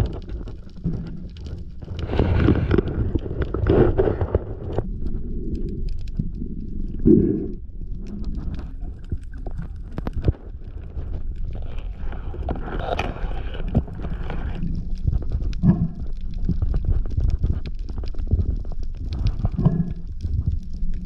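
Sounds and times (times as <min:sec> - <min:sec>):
crackle of clicks: 0:00.0 - 0:21.0
underwater water rumble: 0:00.0 - 0:21.0.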